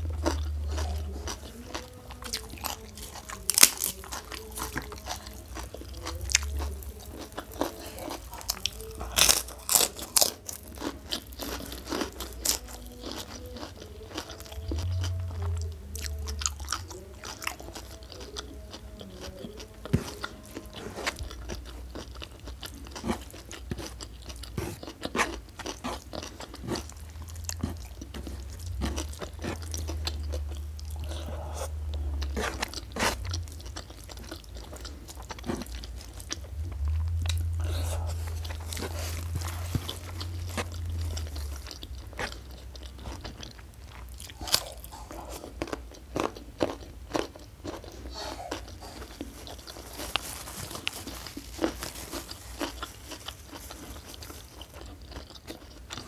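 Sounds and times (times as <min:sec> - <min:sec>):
mouth chewing and crunching food: 0:00.0 - 0:56.0.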